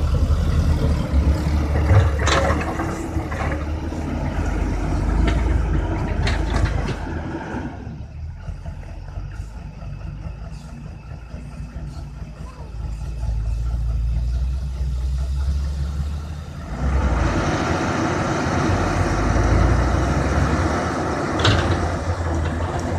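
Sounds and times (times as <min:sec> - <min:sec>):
diesel engine rumbling: 0:00.0 - 0:22.9.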